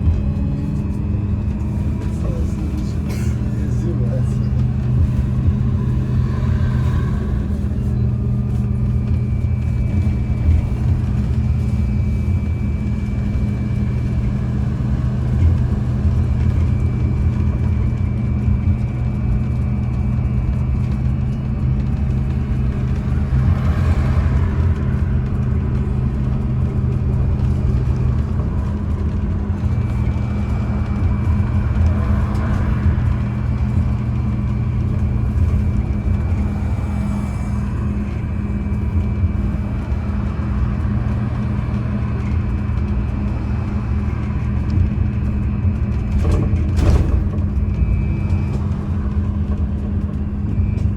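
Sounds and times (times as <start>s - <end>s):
trolleybus low hum: 0.0s - 50.9s.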